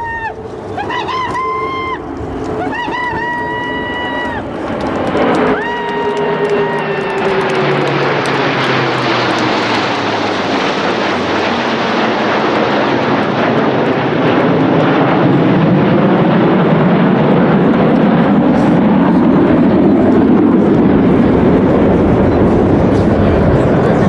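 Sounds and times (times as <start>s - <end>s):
aircraft engines in flight: 0.0s - 24.0s.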